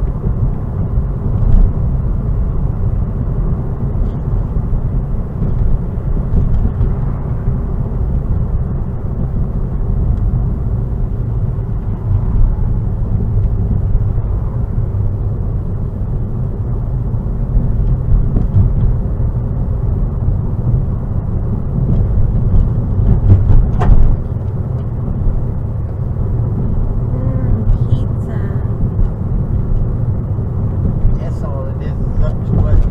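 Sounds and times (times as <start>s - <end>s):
car engine and tyre rumble: 0.0s - 32.9s.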